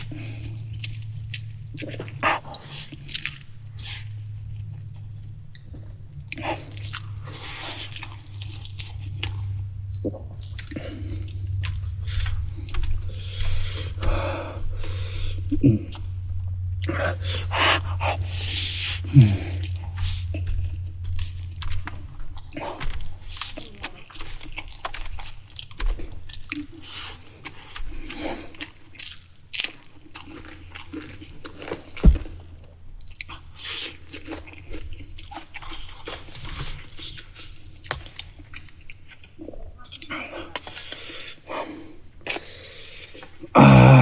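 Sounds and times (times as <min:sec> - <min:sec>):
person chewing food: 0:00.0 - 0:39.4.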